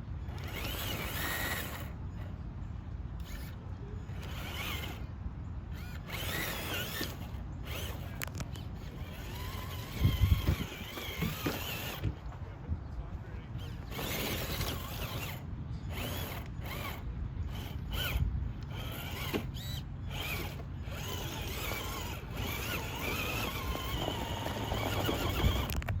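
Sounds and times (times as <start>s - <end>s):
toy truck electric motor whining: 0.2s - 12.3s, 13.5s - 26.0s.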